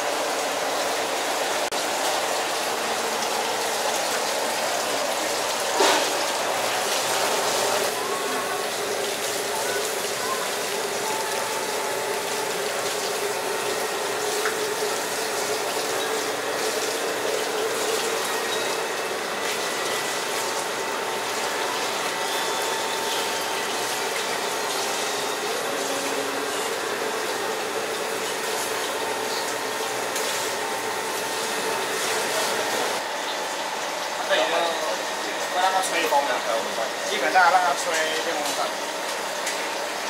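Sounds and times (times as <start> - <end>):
water pouring and splashing: 0.0 - 36.0, 36.7 - 40.0.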